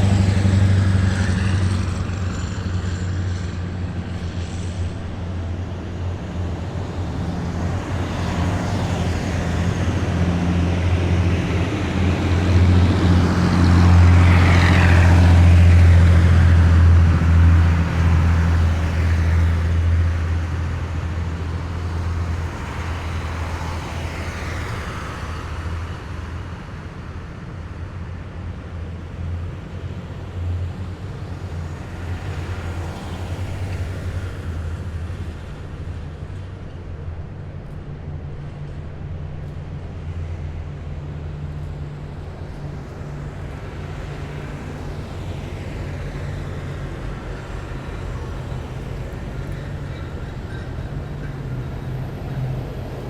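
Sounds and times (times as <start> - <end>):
heavy vehicles driving past: 0.0 - 53.0.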